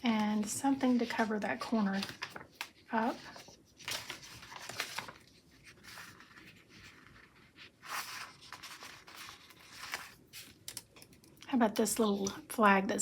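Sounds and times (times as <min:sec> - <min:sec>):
paper rustling: 0:00.2 - 0:11.1.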